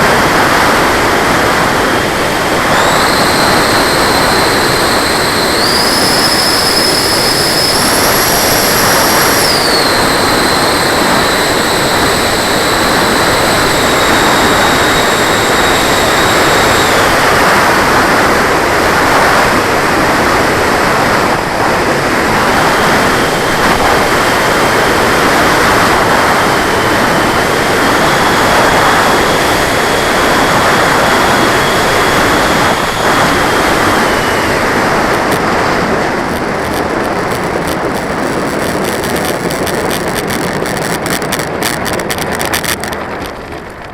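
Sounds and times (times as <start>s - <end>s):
electric ducted fan whine: 0.0s - 43.9s
rush of air: 0.0s - 43.9s.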